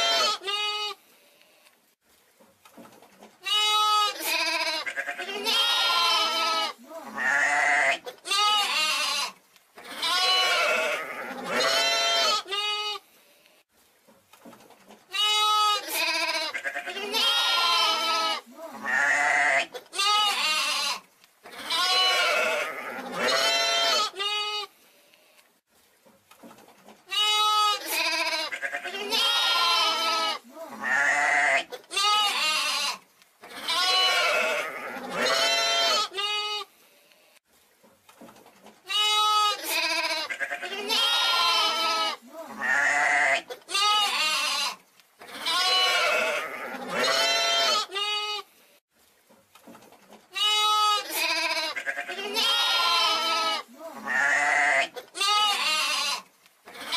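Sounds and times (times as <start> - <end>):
young sheep bleating: 0.0 - 1.0, 3.4 - 13.0, 15.1 - 24.7, 27.1 - 36.7, 38.9 - 48.5, 50.3 - 56.9.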